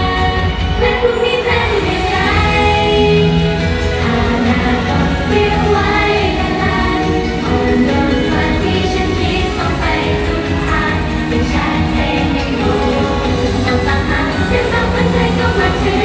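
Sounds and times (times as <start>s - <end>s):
backing music through pa: 0.0s - 16.0s
women singing pop song: 0.0s - 16.0s.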